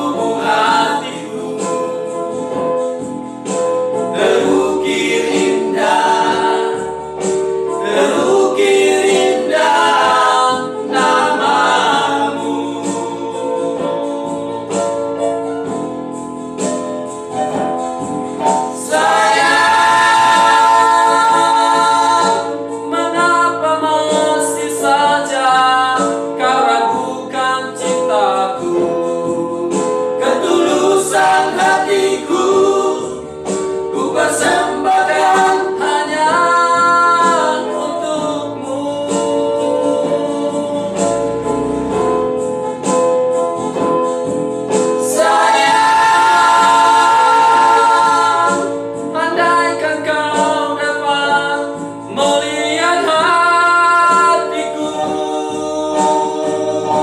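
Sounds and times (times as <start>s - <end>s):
male vocal trio singing in harmony: 0.0s - 16.2s, 18.3s - 42.6s, 43.7s - 57.0s
electronic keyboard: 0.0s - 57.0s.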